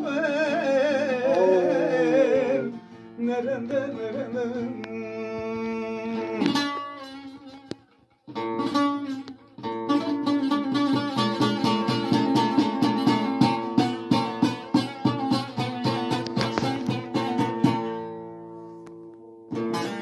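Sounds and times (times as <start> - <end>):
saz strumming: 0.0 - 20.0.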